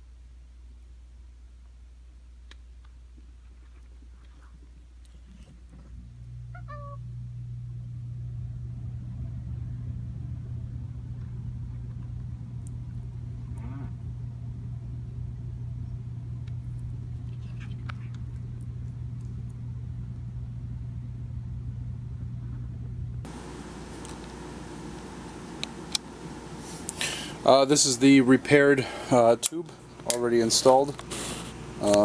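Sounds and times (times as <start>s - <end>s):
low electric hum: 0.0s - 32.0s.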